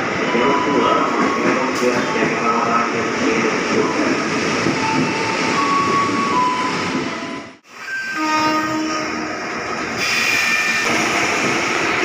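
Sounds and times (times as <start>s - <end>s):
train wheel and rail rumble: 0.0s - 12.0s.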